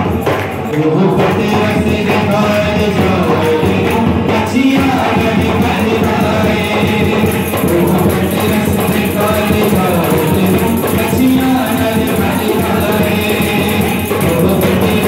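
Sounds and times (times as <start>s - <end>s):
hand drums: 0.0s - 15.0s
man and women singing together: 0.0s - 15.0s.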